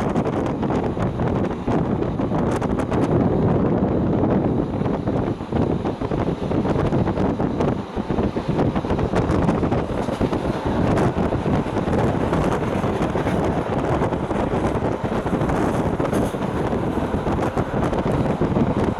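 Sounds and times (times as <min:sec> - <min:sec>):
train running rumble: 0:00.0 - 0:18.9
wind buffeting microphone: 0:00.0 - 0:18.9.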